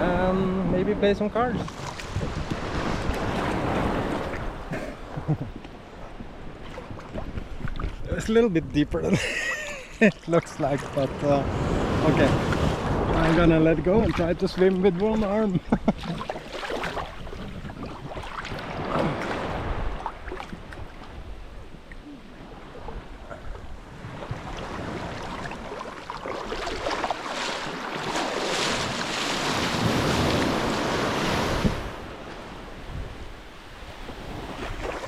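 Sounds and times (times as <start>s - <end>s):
wind buffeting microphone: 0.0s - 9.3s, 10.4s - 35.0s
surf washing up a beach: 0.0s - 35.0s.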